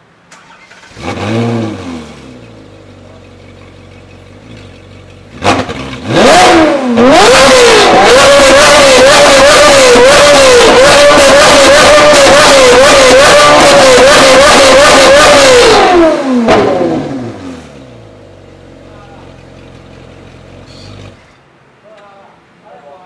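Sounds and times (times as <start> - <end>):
sports car engine revving: 0.7 - 21.4.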